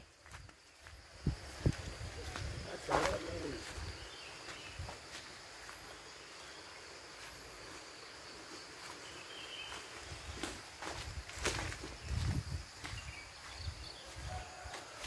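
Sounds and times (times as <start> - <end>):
faint high insect drone: 0.0 - 15.0
footsteps on dry leaves: 0.1 - 15.0.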